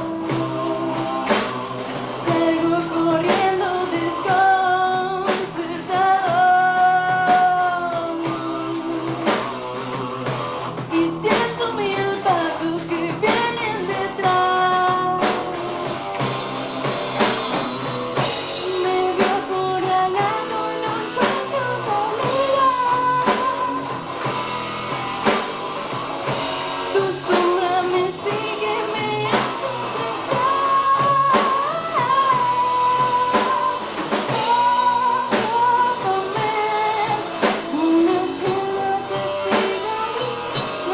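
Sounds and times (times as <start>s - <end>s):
live band with lead vocal: 0.0s - 40.9s.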